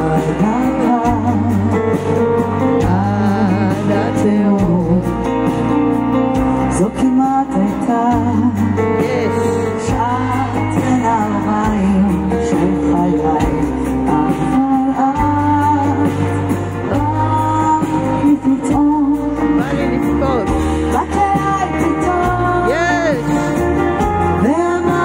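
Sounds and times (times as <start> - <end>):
woman singing: 0.0 - 5.7, 6.6 - 20.1, 20.8 - 25.0
rock band playing: 0.0 - 25.0.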